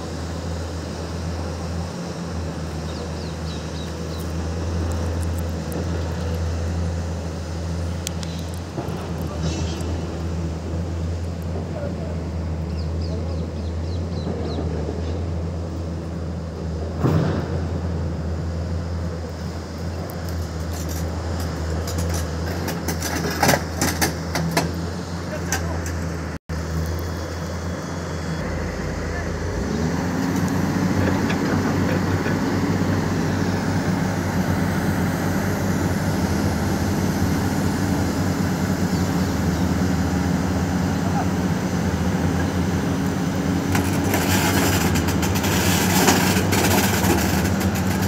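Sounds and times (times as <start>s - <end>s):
excavator diesel engine droning: 0.0s - 48.0s.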